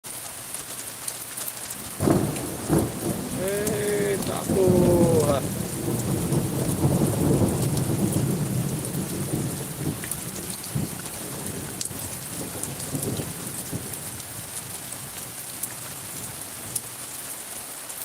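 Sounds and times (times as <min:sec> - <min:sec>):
rain falling: 0:00.0 - 0:18.0
raindrops ticking: 0:00.5 - 0:17.1
low rumble of thunder: 0:01.8 - 0:16.8.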